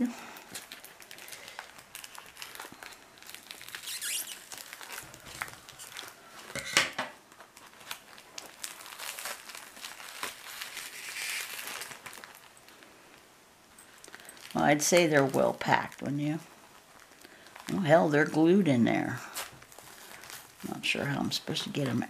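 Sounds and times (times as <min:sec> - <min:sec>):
foam sheets crinkling and tearing: 0:00.0 - 0:22.0.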